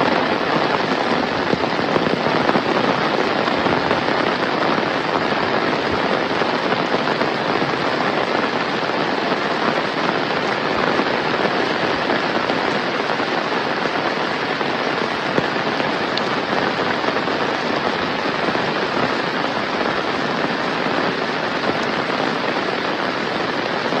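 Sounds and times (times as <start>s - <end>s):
heavy rain pattering: 0.0s - 24.0s.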